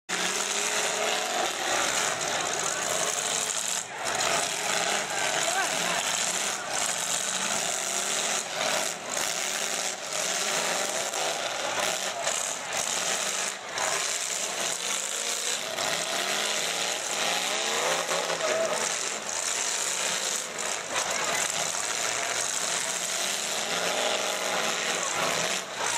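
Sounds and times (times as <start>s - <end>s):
car engines revving hard: 0.1s - 25.9s.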